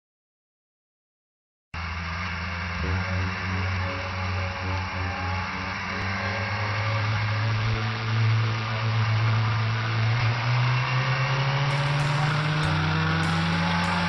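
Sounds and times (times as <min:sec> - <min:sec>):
motorcycle engine running: 0:01.8 - 0:14.0.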